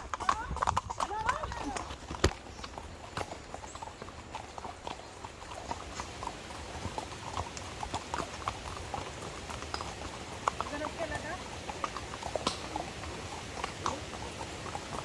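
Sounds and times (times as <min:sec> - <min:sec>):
horse hooves clopping: 0:00.0 - 0:15.0.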